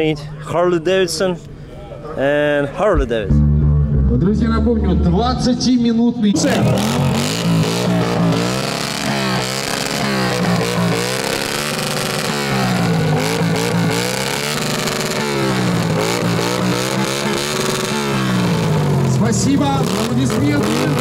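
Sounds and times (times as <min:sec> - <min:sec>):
motorcycle engine revving: 0:03.4 - 0:21.0.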